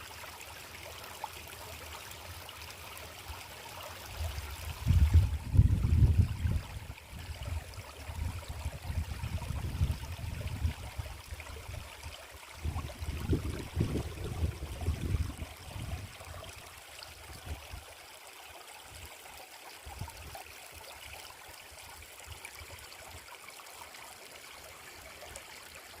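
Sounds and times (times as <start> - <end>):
forest stream rushing: 0.0 - 26.0.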